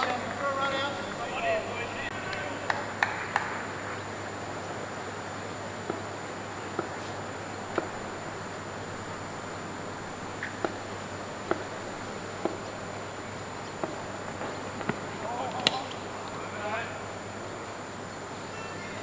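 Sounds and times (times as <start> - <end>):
steady background hiss: 0.0 - 19.0
thin high whine: 0.0 - 19.0.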